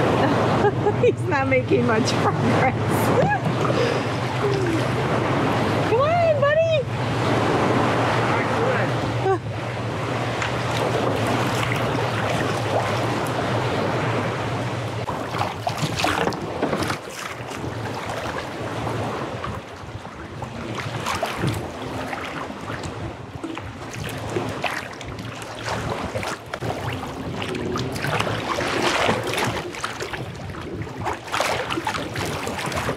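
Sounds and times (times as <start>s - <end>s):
lake water splashing around kayak: 0.0s - 32.9s
wind buffeting microphone: 0.0s - 32.9s
paddle splashes: 2.2s - 32.9s.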